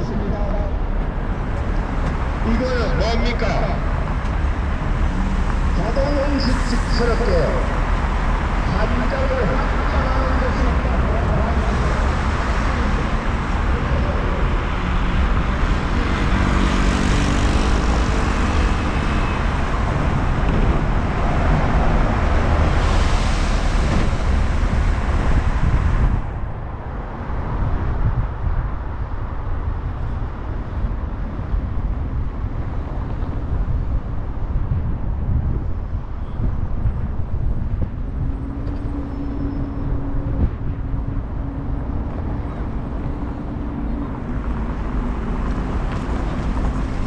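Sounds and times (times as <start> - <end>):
road traffic: 0.0 - 47.0
wind rumble on microphone: 0.0 - 47.0.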